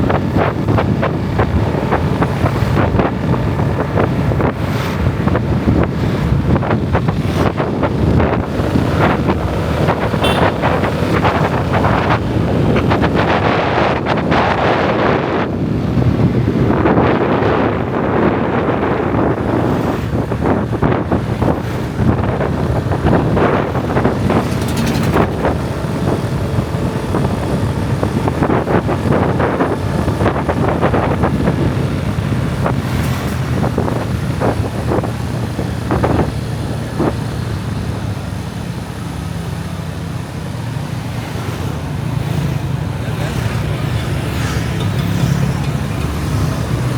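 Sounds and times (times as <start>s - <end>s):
motorbike engine and road noise: 0.0s - 46.9s
wind buffeting microphone: 0.0s - 46.9s.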